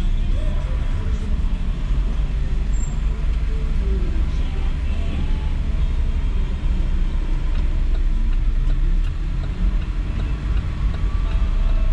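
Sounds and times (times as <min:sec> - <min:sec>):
car engine and road rumble: 0:00.0 - 0:11.9.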